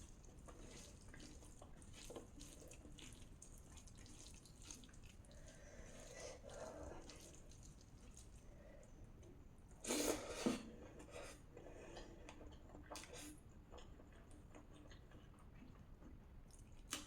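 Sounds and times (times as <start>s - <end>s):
soft chewing: 0.0s - 9.5s, 10.8s - 17.0s.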